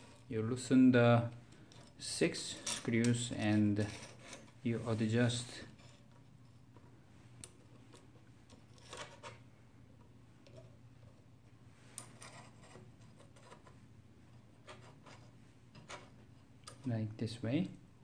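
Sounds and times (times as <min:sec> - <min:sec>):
low steady hum: 0:00.0 - 0:18.0
faint clicks and metal scrapes: 0:01.2 - 0:17.0.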